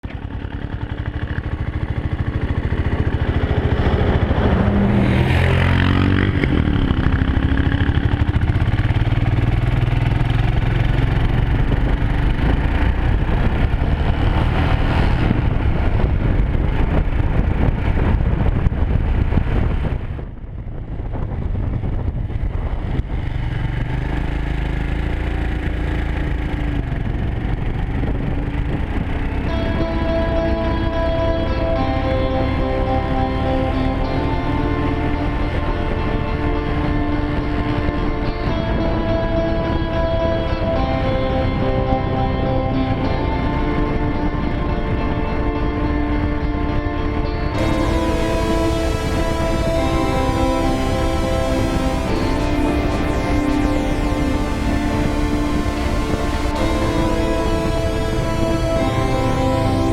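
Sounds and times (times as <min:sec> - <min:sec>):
motorcycle engine running: 0:00.0 - 0:59.9
road and wind noise: 0:00.0 - 0:59.9.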